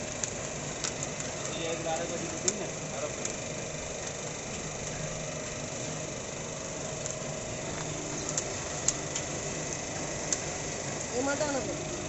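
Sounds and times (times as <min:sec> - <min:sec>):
roasting machine running: 0:00.0 - 0:12.0.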